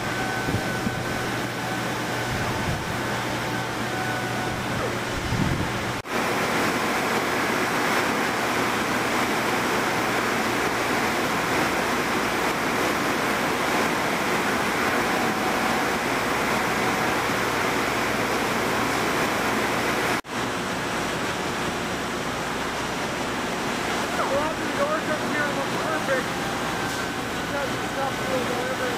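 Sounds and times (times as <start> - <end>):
wide-belt sander rushing: 0.0 - 20.2, 21.9 - 28.9
woodshop machinery: 0.0 - 28.9.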